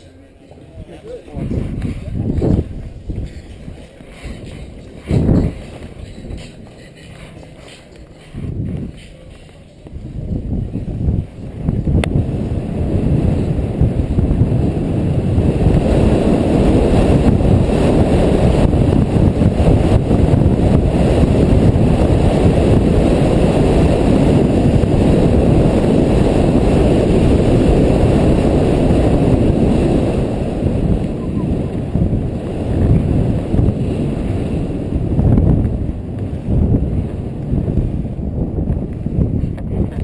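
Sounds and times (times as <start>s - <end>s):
wind buffeting microphone: 0.6s - 40.0s.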